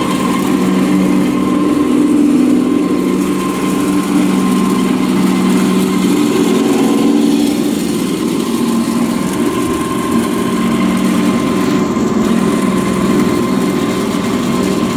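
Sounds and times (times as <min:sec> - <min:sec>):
pellet mill humming: 0:00.0 - 0:14.9.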